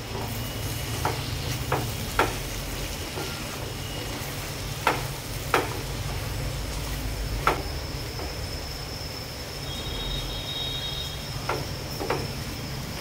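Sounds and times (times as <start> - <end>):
curry sizzling: 0.0 - 13.0.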